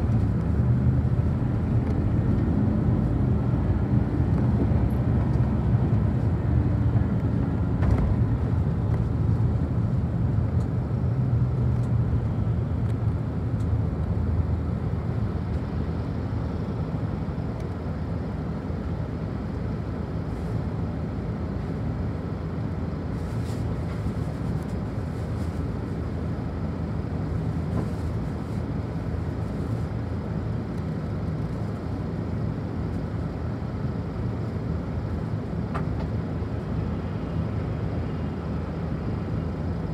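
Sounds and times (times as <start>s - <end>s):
bus engine and road noise: 0.0s - 39.9s.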